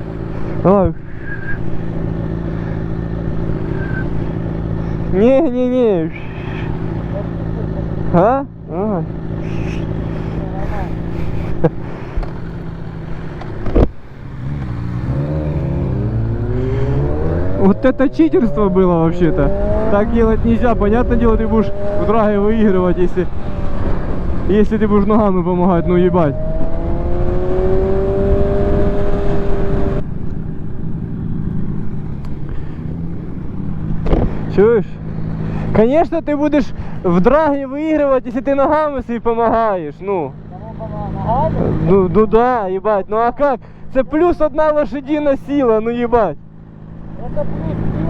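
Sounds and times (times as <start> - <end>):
motorcycle engine accelerating: 0.0 - 35.9, 44.6 - 48.0.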